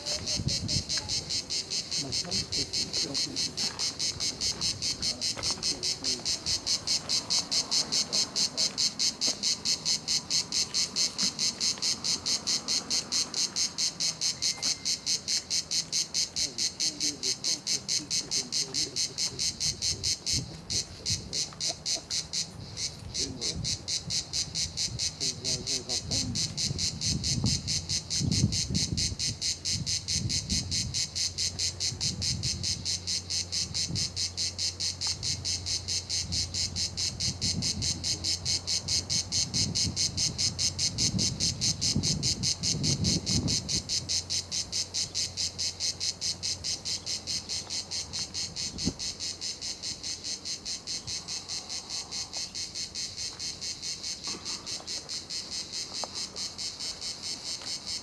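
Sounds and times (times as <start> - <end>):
cicadas buzzing chorus: 0.0 - 58.0.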